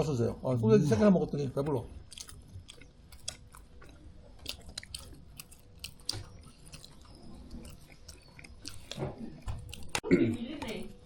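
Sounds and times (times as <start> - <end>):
small sharp eating clicks: 1.3 - 11.0
person chewing food: 1.6 - 11.0.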